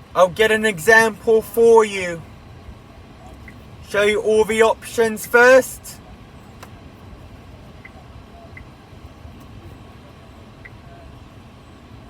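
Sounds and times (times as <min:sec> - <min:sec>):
vehicle rumble inside car: 0:00.0 - 0:12.0.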